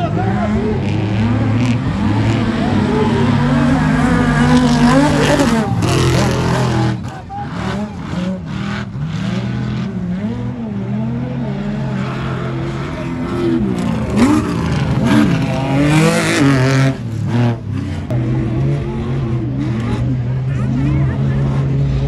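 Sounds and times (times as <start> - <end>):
race truck engines revving: 0.0 - 22.0.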